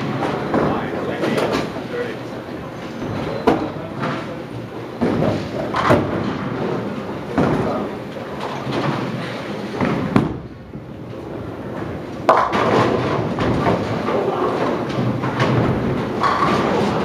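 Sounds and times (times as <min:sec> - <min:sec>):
bowling ball rolling: 0:00.0 - 0:17.0.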